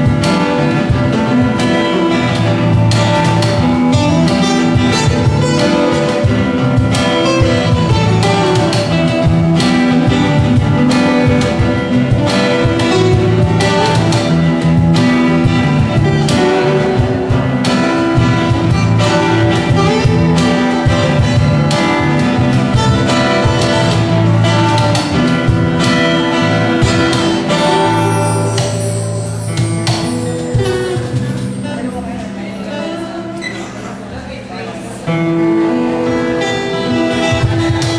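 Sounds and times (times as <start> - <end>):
percussive hits: 0.0 - 31.9
bass guitar: 0.0 - 34.1, 35.1 - 37.9
acoustic guitars strummed: 0.0 - 37.9.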